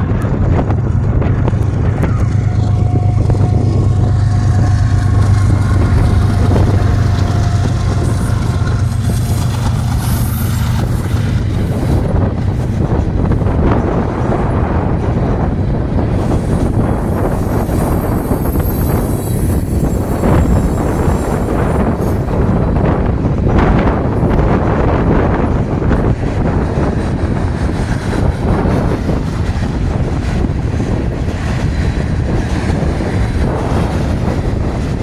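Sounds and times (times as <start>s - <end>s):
diesel locomotive engine rumble: 0.0s - 35.0s
hopper cars rolling over rails: 0.0s - 35.0s
wind buffeting microphone: 0.0s - 35.0s.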